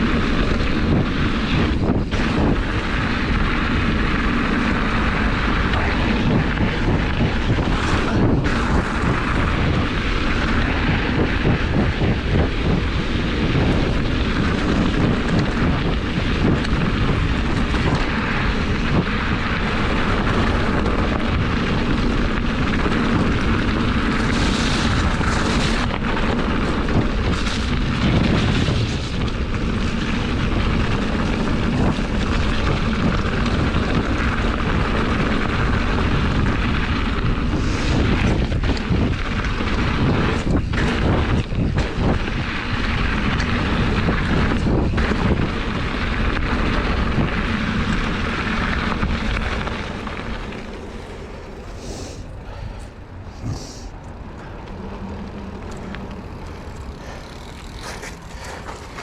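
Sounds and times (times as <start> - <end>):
bike rattles and scrapes: 0.0 - 59.0
tyre and trail rumble: 0.0 - 59.0
wind buffeting microphone: 0.0 - 59.0.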